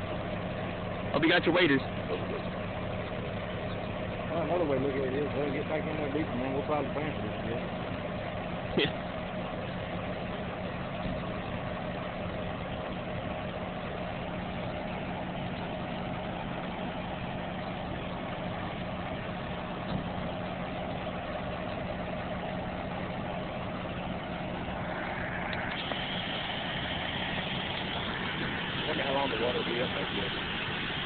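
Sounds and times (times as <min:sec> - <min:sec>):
high steady whine: 0:00.0 - 0:31.0
vehicle engine idling: 0:00.0 - 0:31.0.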